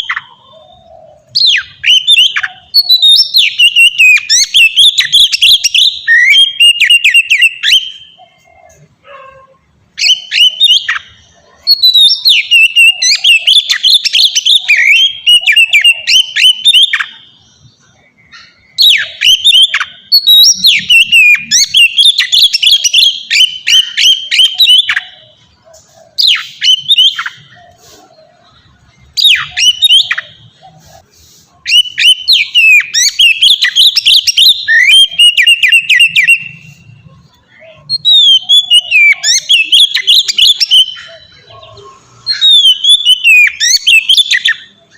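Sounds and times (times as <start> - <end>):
bird singing whistles and chirps: 0.0 - 44.9.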